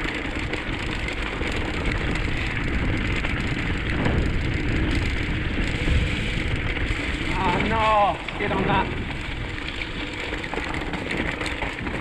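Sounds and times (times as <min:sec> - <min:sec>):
bike tyres rolling through mud: 0:00.0 - 0:12.0
wind rumbling on microphone: 0:00.0 - 0:12.0.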